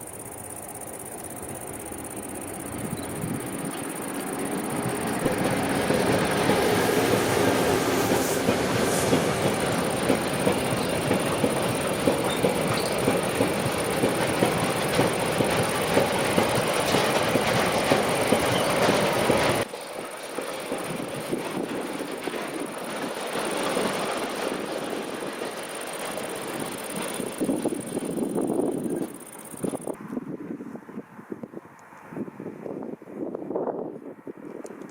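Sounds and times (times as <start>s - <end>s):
train wheels on rail: 0.0s - 30.0s.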